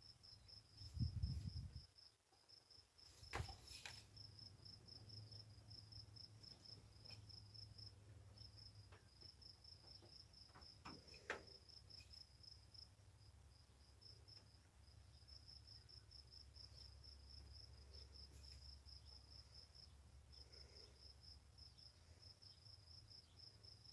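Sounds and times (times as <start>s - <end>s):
cricket chirping: 0.0s - 23.9s.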